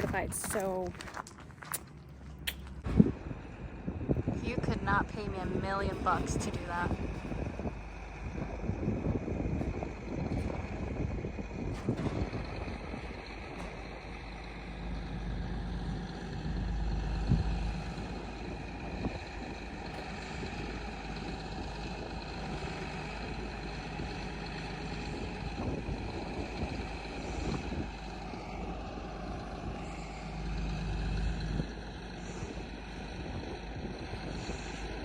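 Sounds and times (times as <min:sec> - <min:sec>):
heavy vehicle engine rumbling: 0:00.0 - 0:35.0.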